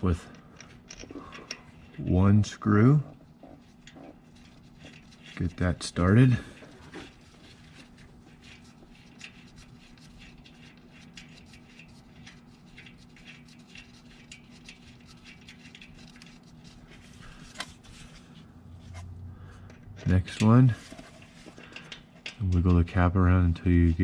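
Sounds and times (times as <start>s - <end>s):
small clicks and scrapes: 0.0s - 24.0s.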